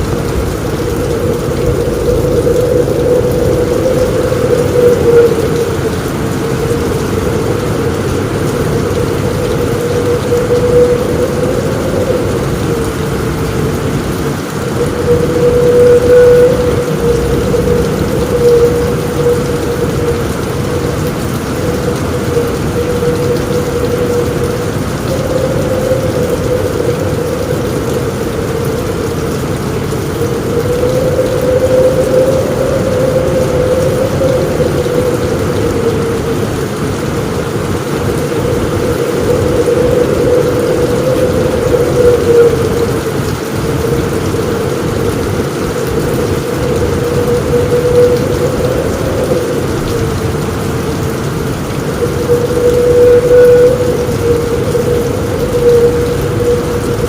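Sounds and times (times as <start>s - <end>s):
heavy rain on a roof: 0.0s - 57.0s
thunder rumbling: 0.0s - 57.0s.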